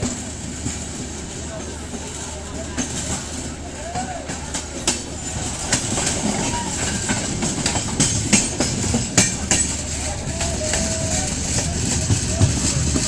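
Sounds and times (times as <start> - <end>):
train rumbling: 0.0 - 13.0
wheels clacking over rail joints: 0.0 - 13.0.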